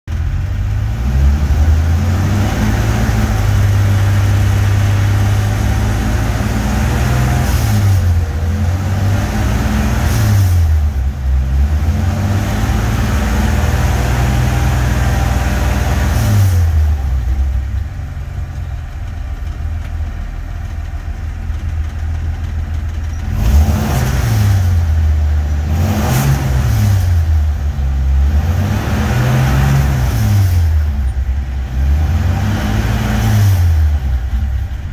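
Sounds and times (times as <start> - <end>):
truck engine revving: 0.1 - 34.9.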